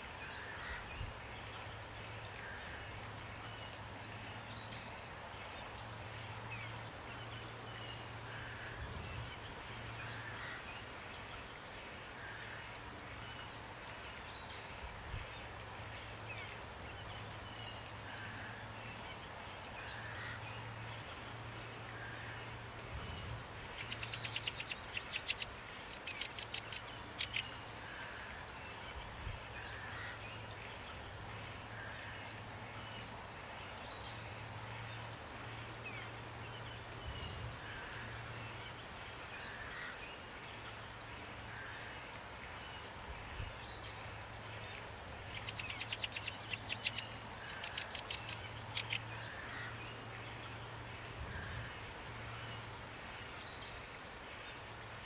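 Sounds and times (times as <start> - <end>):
light rain hiss: 0.0 - 55.0
songbirds chirping: 0.0 - 55.0.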